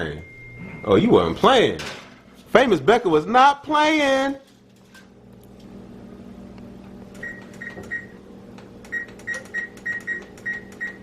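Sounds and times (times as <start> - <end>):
appliance hum: 0.0 - 11.0.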